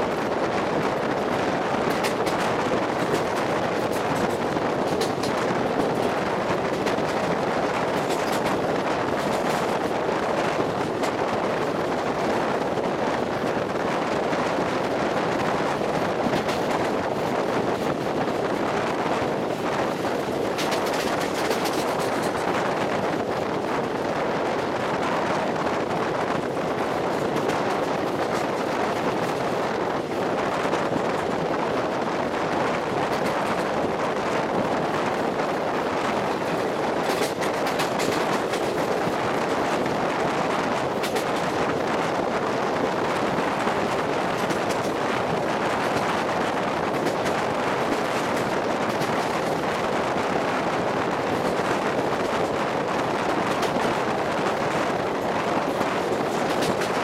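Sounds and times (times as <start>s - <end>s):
train clicks and clatter: 0.0s - 57.0s
train wheels rushing on rail: 0.0s - 57.0s
wind rushing: 0.0s - 57.0s.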